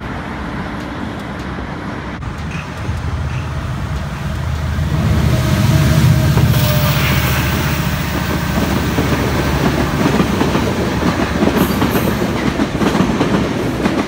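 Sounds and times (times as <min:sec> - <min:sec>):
road traffic noise: 0:00.0 - 0:14.0
train rumble: 0:00.0 - 0:14.0.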